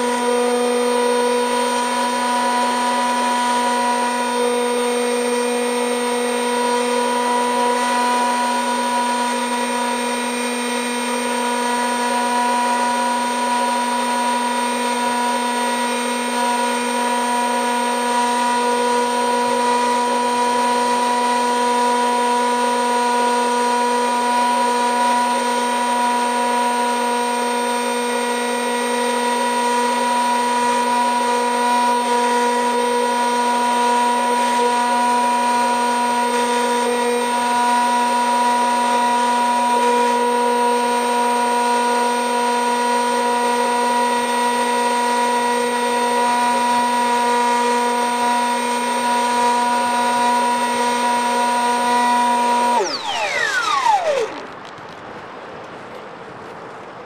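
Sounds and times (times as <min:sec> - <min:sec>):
electric motor and propeller whine: 0:00.0 - 0:55.8.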